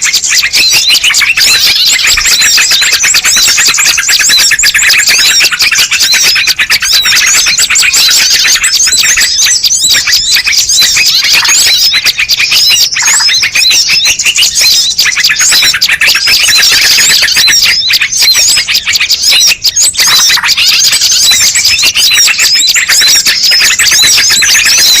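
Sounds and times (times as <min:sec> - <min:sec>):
small birds chirping and twittering: 0:00.0 - 0:25.0.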